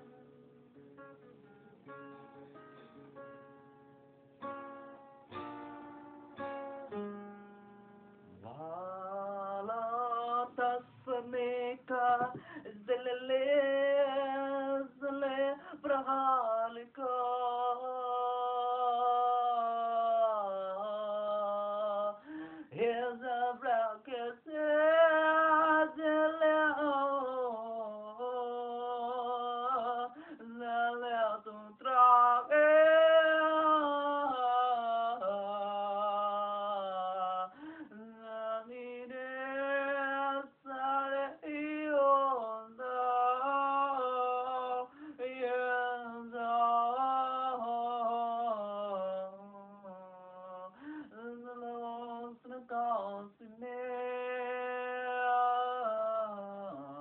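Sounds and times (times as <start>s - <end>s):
person singing unaccompanied: 8.3s - 57.0s.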